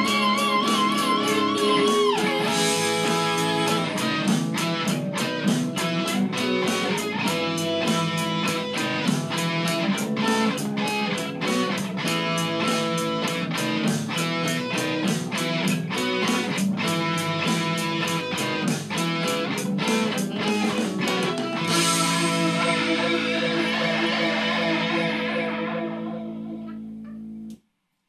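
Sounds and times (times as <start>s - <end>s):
electric guitar picked rhythm: 0.0s - 27.6s.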